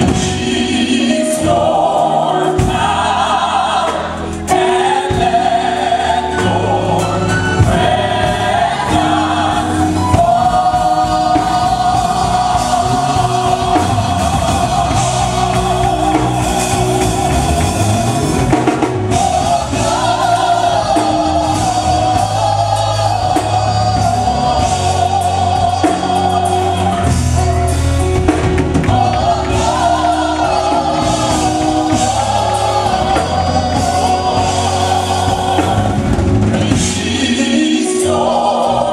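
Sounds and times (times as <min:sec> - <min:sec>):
band with bass and drums: 0:00.0 - 0:38.9
gospel choir singing: 0:00.0 - 0:38.9.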